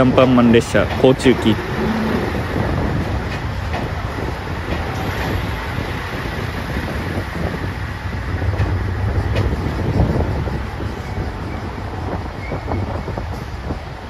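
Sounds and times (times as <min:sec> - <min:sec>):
train engine and wheels rumbling: 0:00.0 - 0:14.0.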